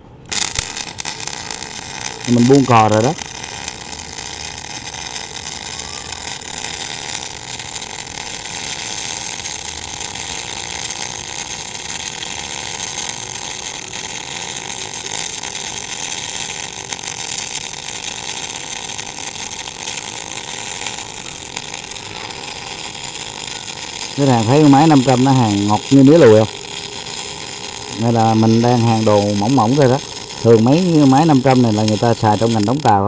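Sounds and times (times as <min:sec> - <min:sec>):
welding arc crackling hiss: 0:00.0 - 0:33.0.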